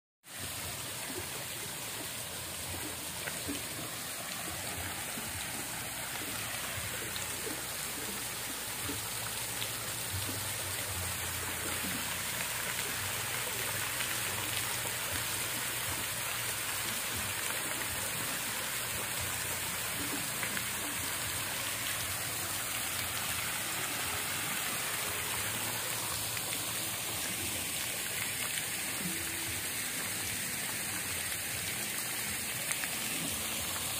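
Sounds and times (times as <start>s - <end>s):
hiss of falling water: 0.2s - 33.9s.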